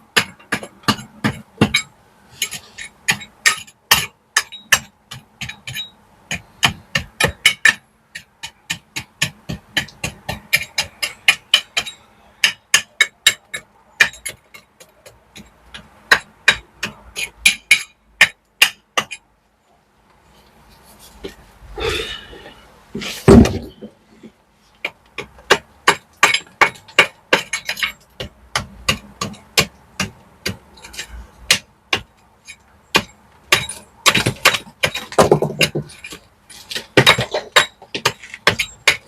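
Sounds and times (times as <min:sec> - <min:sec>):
hammer striking brickwork: 0:00.1 - 0:19.2, 0:23.0 - 0:39.0.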